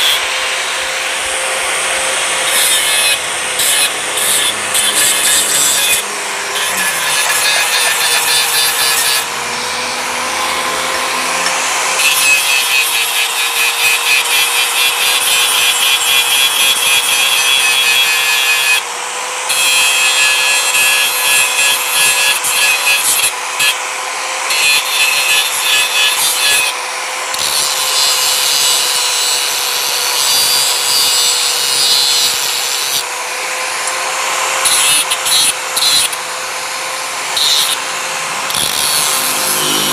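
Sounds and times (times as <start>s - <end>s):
angle grinder disc grinding steel: 0.0s - 39.9s
grinder motor whine: 0.0s - 39.9s.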